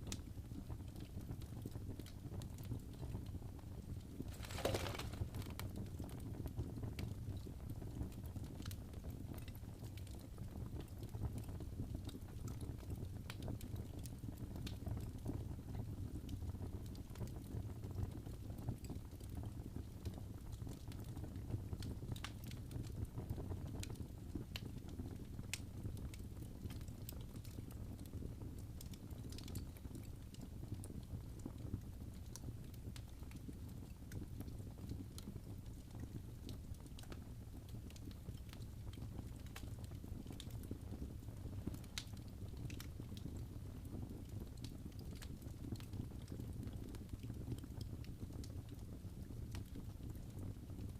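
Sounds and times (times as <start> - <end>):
fire crackling and popping: 0.0 - 50.9
fire rumbling in a fireplace: 0.0 - 50.9.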